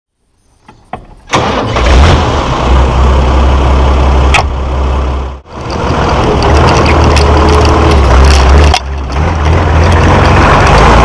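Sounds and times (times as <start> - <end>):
tractor diesel engine starting: 1.2 - 11.0.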